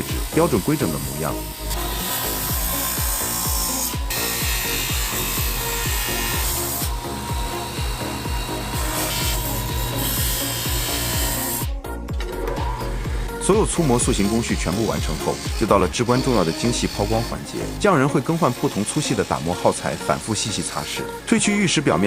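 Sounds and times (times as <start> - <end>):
grinding tool rasping hiss: 0.0 - 11.8, 12.5 - 21.3
background music with beat: 0.0 - 18.0.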